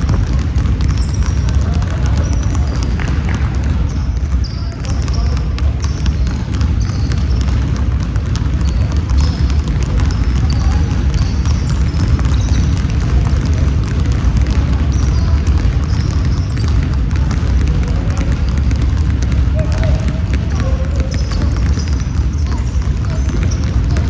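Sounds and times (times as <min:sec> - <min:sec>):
basketball bouncing: 0:00.0 - 0:24.0
sneaker squeaks: 0:00.0 - 0:24.0.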